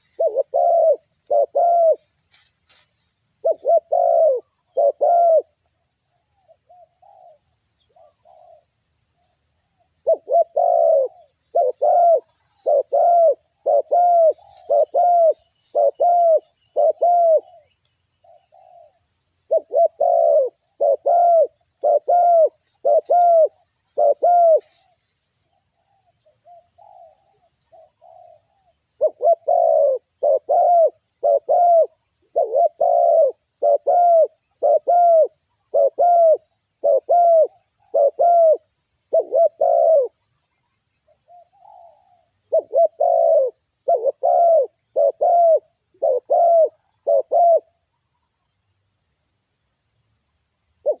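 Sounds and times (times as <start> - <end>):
doves cooing: 0.0 - 5.7, 6.4 - 40.5, 41.1 - 47.8.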